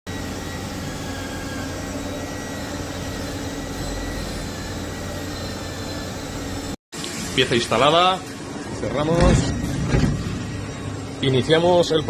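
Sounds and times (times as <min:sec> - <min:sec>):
milling machine hum and whine: 0:00.1 - 0:12.0.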